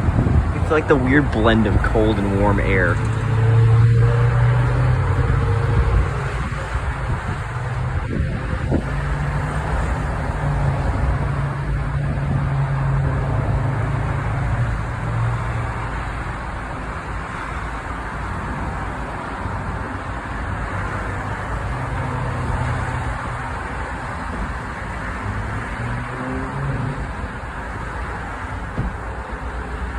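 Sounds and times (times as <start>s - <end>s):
low engine hum: 0.0s - 29.9s
road and tyre noise: 0.0s - 29.9s.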